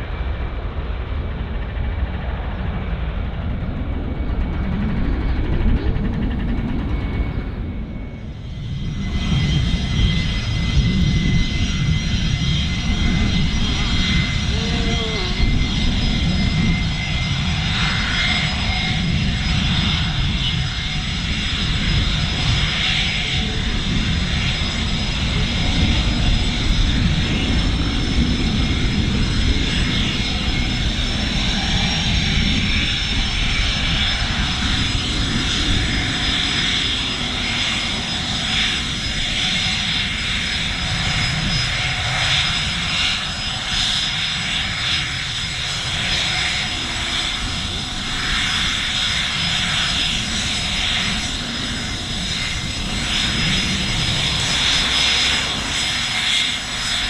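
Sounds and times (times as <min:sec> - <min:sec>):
jet engine whine and rumble: 0:00.0 - 0:57.0.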